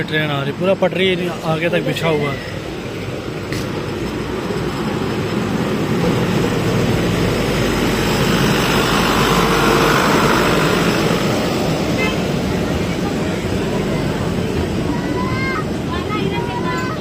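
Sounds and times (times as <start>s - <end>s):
small train passing on rails: 0.0s - 17.0s.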